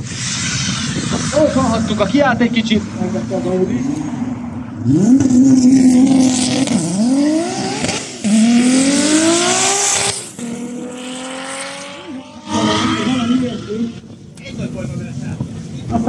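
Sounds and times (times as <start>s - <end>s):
drag racing cars accelerating: 0.0s - 16.0s.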